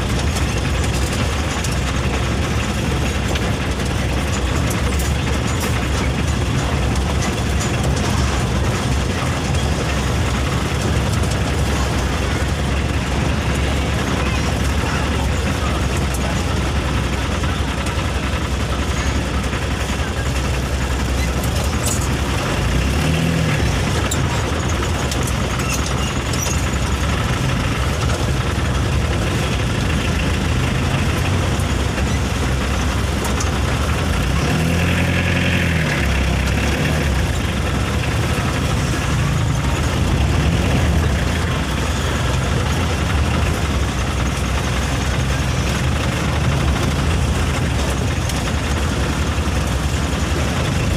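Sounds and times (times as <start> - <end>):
heavy truck engine running: 0.0 - 50.9.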